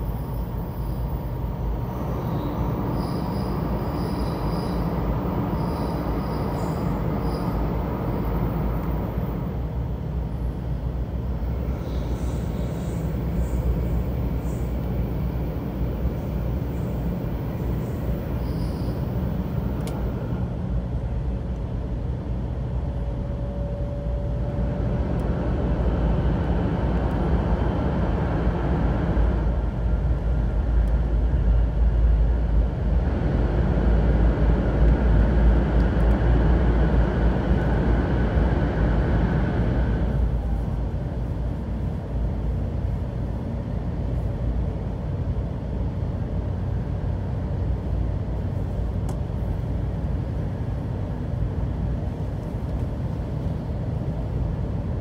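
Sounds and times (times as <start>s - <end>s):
train rumble from inside car: 0.0s - 55.0s.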